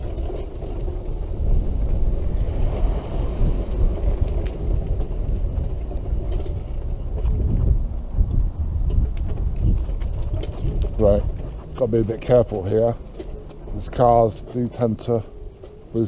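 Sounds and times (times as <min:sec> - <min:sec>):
car passing: 0:00.0 - 0:16.0
road vehicle rumble: 0:00.0 - 0:16.0
wind buffeting microphone: 0:00.0 - 0:16.0.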